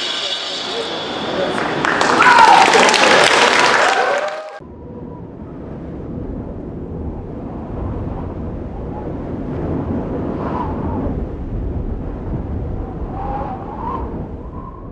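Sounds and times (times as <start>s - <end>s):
low rumbling noise: 0.0s - 14.9s.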